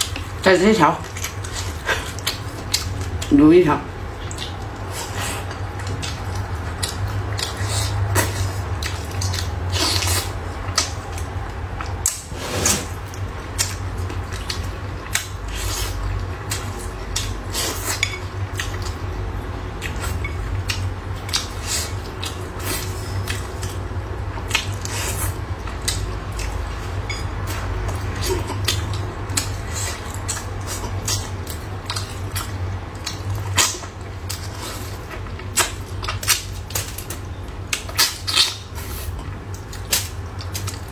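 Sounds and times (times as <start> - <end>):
chewing: 1.0 - 3.3, 4.1 - 40.9.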